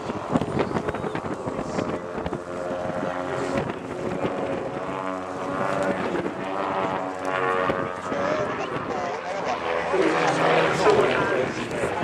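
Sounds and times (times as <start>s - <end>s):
propeller aircraft engine drone: 0.0s - 12.0s
wind buffeting microphone: 0.0s - 12.0s.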